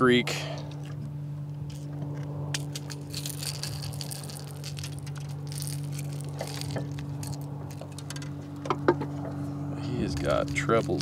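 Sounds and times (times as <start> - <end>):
steady low hum: 0.0 - 11.0
small clicks and scratchy handling: 0.7 - 11.0.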